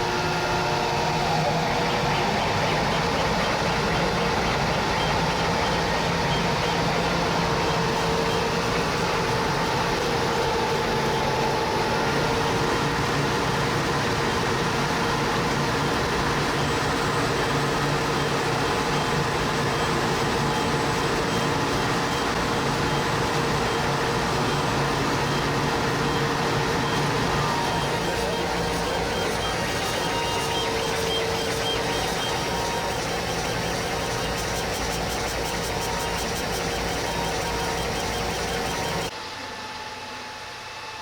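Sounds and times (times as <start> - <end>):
humming tones: 0.0 - 39.1
machine whirring: 0.0 - 41.0.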